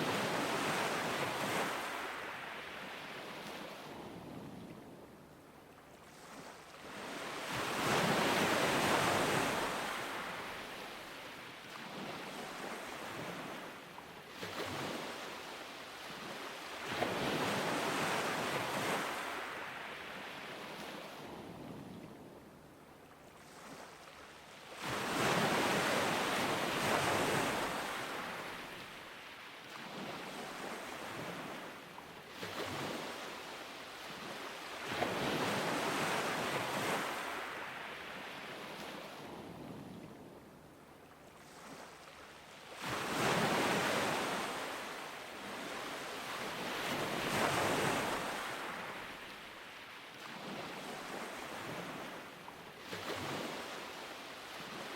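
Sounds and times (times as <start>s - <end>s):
ocean waves crashing on beach: 0.0s - 3.9s, 6.2s - 21.5s, 24.6s - 39.6s, 41.4s - 54.9s.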